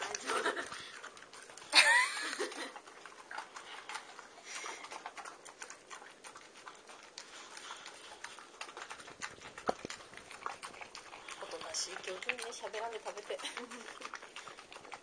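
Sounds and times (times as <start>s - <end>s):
dog licking and chewing food: 0.0s - 15.0s.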